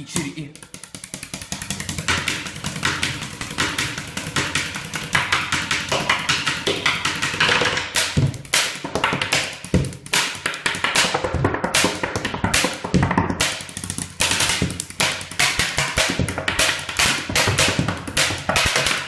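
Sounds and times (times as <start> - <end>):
pens tapping a beat: 0.0 - 19.0.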